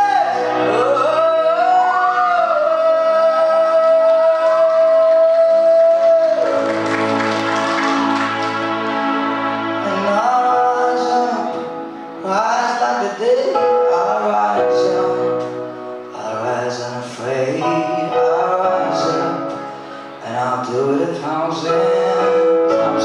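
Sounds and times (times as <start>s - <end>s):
man singing into a microphone: 0.0s - 6.6s, 9.8s - 23.0s
instrumental backing music: 0.0s - 23.0s.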